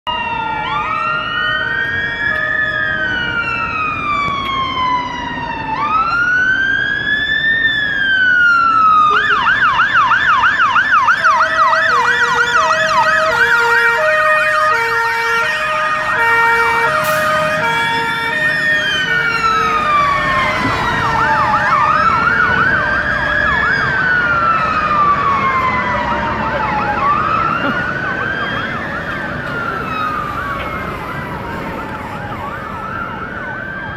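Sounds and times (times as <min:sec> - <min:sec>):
fire engine siren wail: 0:00.0 - 0:33.9
siren rapid yelp: 0:00.1 - 0:33.9.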